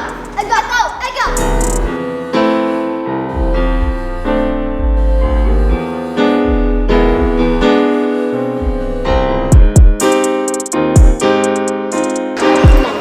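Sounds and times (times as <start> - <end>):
bass line: 0.0 - 2.1, 2.7 - 12.9
electric piano chords: 1.3 - 13.0.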